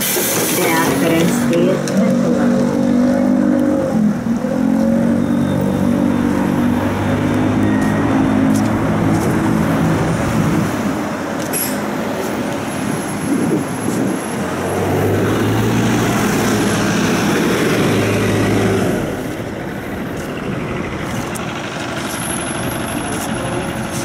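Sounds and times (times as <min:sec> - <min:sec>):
bus engine hum: 0:00.0 - 0:24.0
road and traffic noise: 0:00.0 - 0:24.0.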